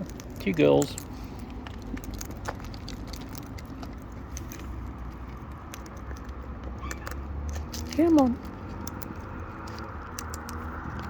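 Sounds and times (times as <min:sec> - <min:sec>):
parrots cracking seed: 0:00.0 - 0:11.0.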